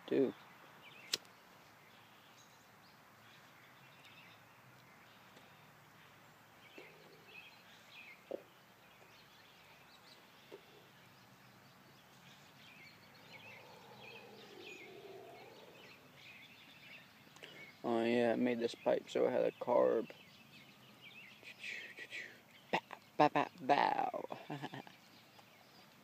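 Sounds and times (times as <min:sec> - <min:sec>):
faint bird chirps: 0:00.1 - 0:26.0.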